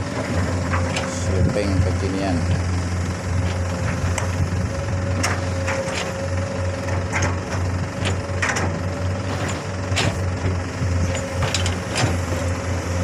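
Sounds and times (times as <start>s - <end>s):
excavator bucket clanking: 0.0s - 2.7s, 3.4s - 12.6s
diesel engine drone: 0.0s - 13.0s
hydraulic whine: 0.0s - 13.0s.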